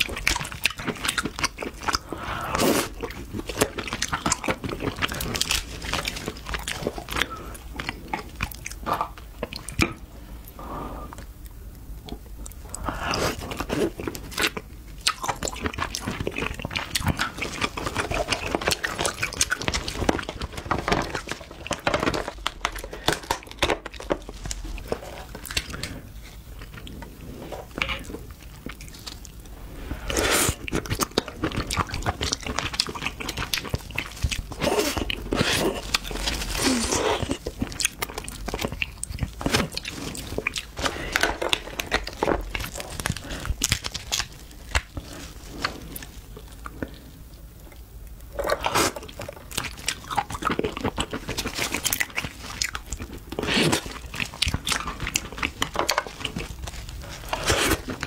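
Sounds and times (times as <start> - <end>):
wet chewing: 0.0 - 10.1, 11.2 - 58.0.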